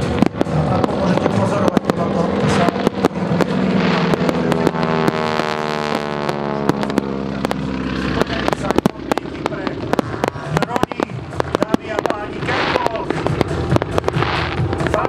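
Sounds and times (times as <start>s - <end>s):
aircraft engine droning: 0.0s - 15.0s
fireworks crackling and banging: 0.0s - 15.0s.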